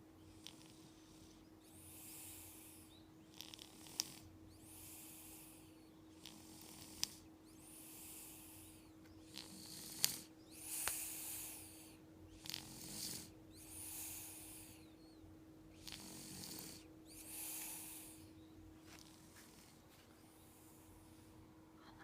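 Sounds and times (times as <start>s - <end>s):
snoring: 0.4s - 14.9s, 15.8s - 18.3s, 18.9s - 19.6s.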